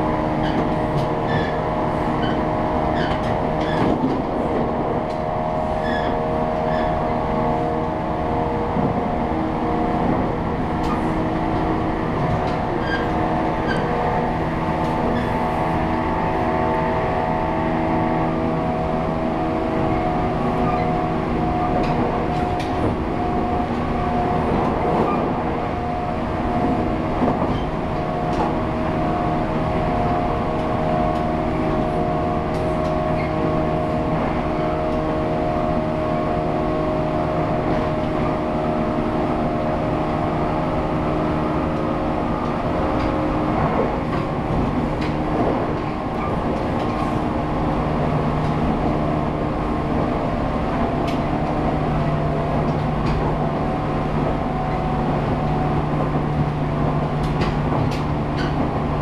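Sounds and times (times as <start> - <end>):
train rolling noise: 0.0 - 59.0.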